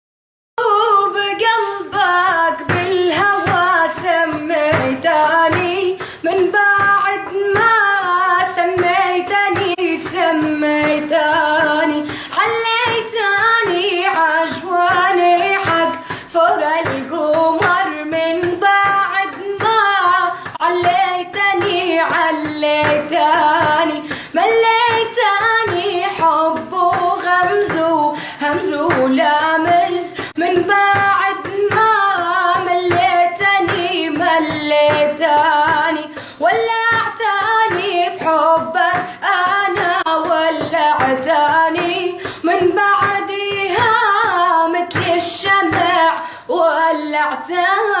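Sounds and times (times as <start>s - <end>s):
woman singing: 0.6s - 48.0s.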